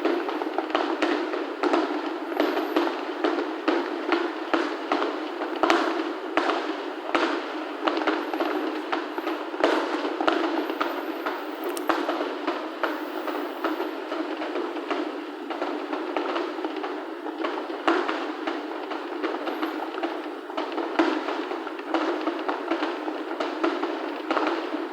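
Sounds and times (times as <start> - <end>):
fireworks bangs: 0.0 - 24.9
fireworks crackling: 0.0 - 24.9.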